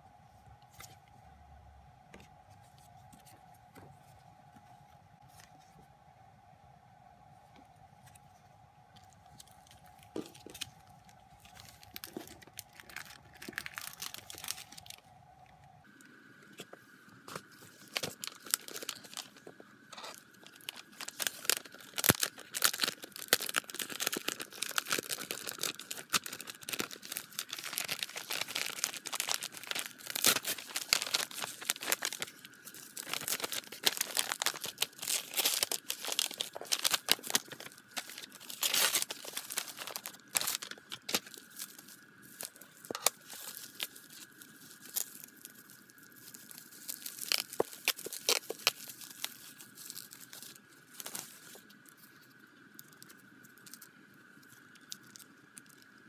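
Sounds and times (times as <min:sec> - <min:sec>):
plastic packaging crinkling: 0:09.0 - 0:15.5, 0:17.3 - 0:56.0.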